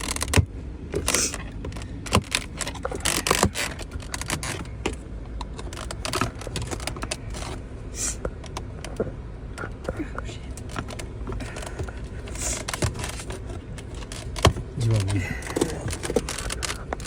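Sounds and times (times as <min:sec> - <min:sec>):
plastic scraping: 0:00.0 - 0:07.6, 0:10.6 - 0:17.0.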